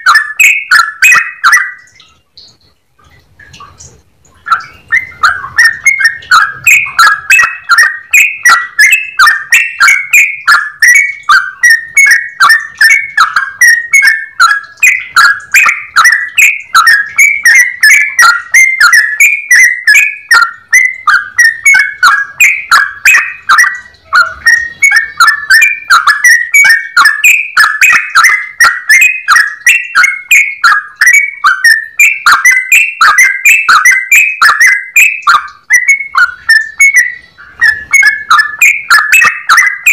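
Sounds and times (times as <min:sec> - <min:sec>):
bird singing whistled chattering: 0:00.0 - 0:02.6, 0:03.7 - 0:39.9.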